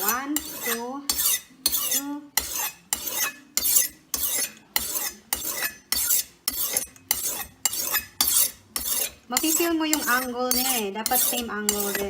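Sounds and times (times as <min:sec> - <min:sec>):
knife rasping on sharpening stone: 0:00.0 - 0:12.0.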